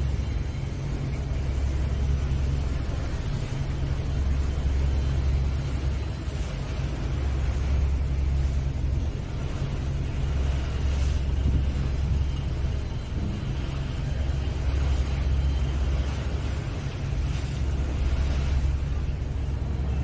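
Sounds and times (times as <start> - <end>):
ship engines droning: 0.0 - 20.0.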